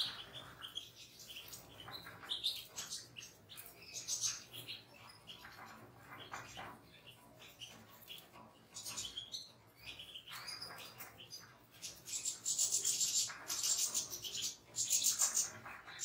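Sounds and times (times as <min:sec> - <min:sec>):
birds chirping and twittering: 0:00.0 - 0:16.0.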